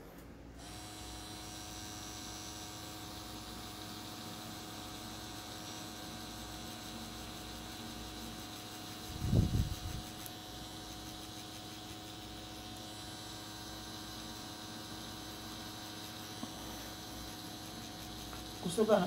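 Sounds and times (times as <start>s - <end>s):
tattoo machine humming: 0.6s - 19.0s.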